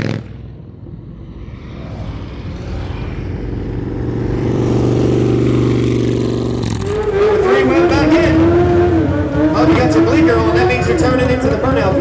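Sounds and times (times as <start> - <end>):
vehicle engine running: 1.0 - 12.0.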